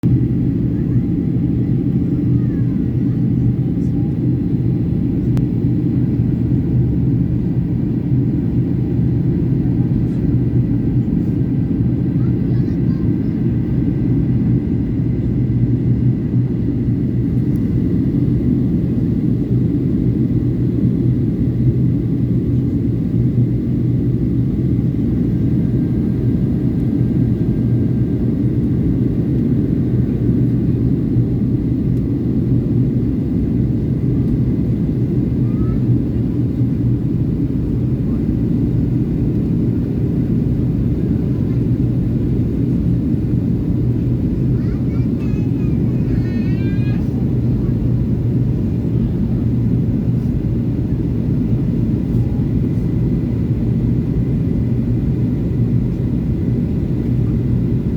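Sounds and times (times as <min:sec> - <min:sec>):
airliner engine drone in cabin: 0:00.0 - 0:57.9
constant hum: 0:00.0 - 0:57.9.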